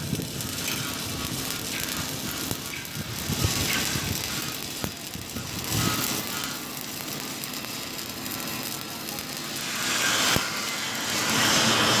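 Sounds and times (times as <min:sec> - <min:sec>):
welding arc crackling and hissing: 0:00.0 - 0:12.0.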